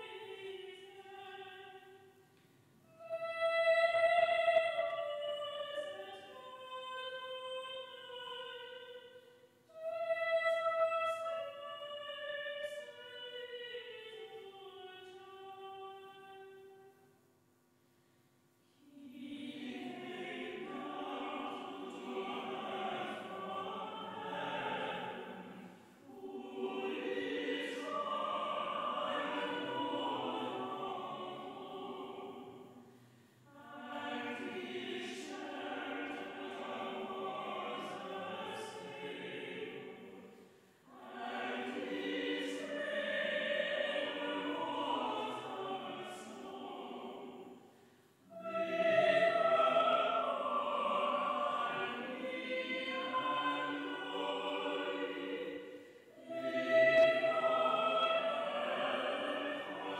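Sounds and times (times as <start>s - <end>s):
choir singing a carol: 0.0s - 2.2s, 2.9s - 17.1s, 18.7s - 59.9s.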